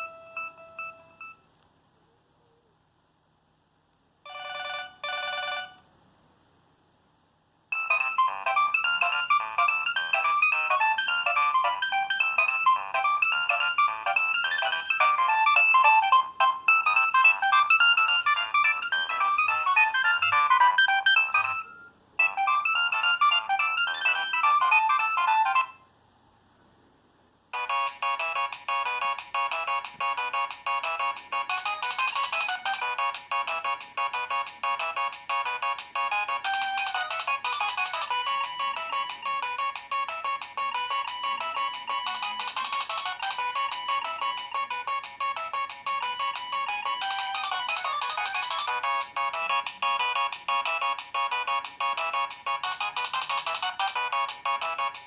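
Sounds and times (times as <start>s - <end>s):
phone ringtone melodies: 0.0s - 1.5s, 4.3s - 5.8s, 7.7s - 25.8s, 27.5s - 55.0s.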